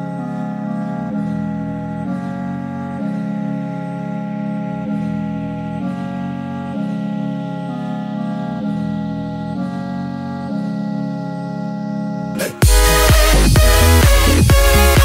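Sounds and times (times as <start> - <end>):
held chords background music: 0.0 - 15.0.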